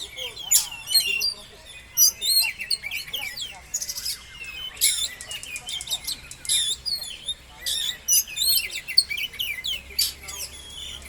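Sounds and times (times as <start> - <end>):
bird singing: 0.0 - 11.0.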